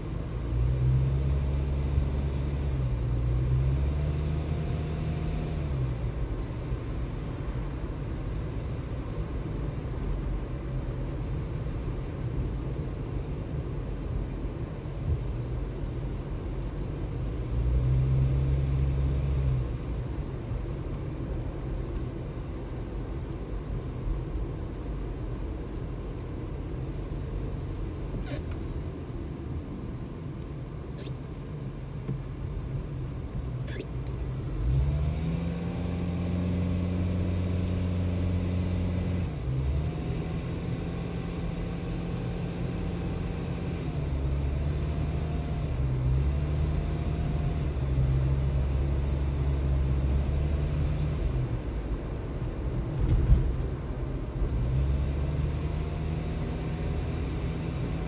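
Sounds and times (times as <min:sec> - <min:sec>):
car engine while driving: 0:00.0 - 0:58.0
road rumble: 0:00.0 - 0:58.0.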